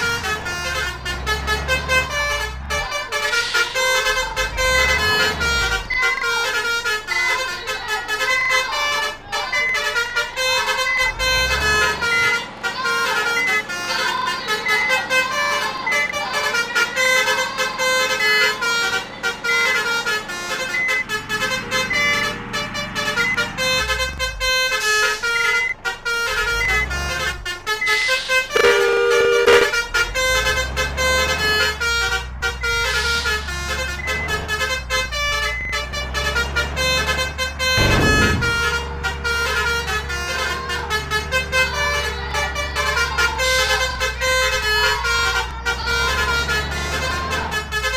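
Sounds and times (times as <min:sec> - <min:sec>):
low engine rumble: 0:00.0 - 0:47.9
musical bus horns playing a tune: 0:00.0 - 0:47.9.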